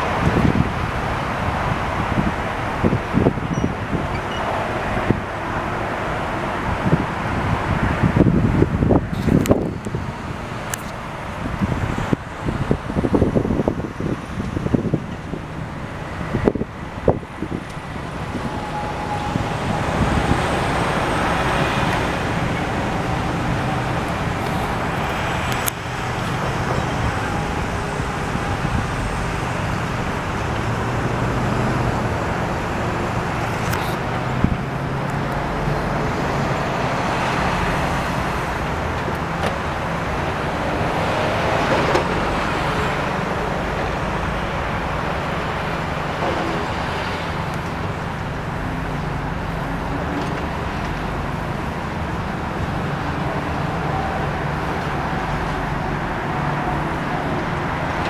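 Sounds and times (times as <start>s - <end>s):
trucks driving past: 0.0s - 58.0s.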